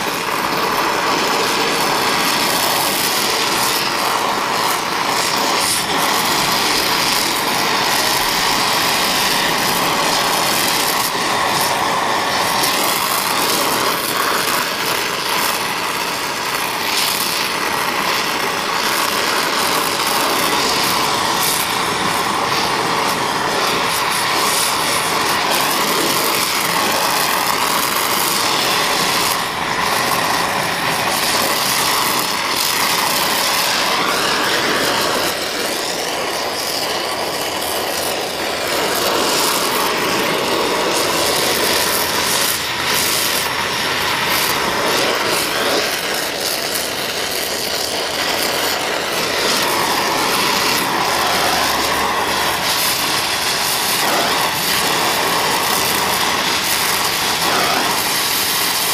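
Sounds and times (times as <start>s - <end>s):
torch flame hissing: 0.0s - 58.9s.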